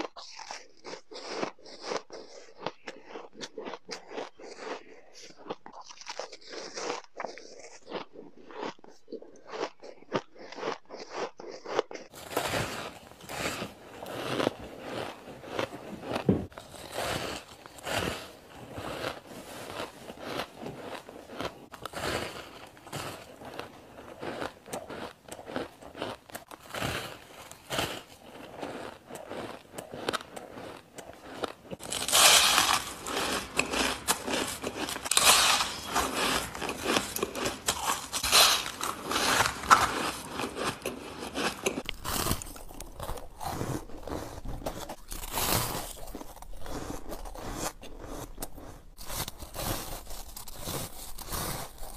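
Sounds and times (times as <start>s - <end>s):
ice being bitten and chewed: 0.0s - 51.9s.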